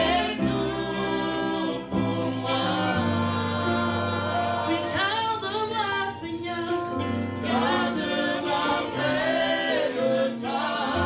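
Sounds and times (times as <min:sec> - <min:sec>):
vocal group singing in harmony: 0:00.0 - 0:11.0.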